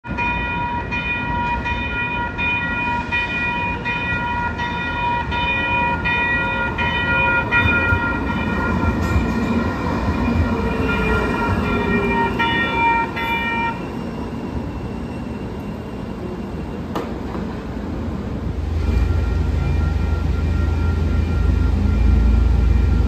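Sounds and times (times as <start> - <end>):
train warning bell ringing: 0.0 - 17.1, 18.8 - 23.0
falling whine of train slowing: 0.1 - 23.0
train rumbling: 0.1 - 23.0.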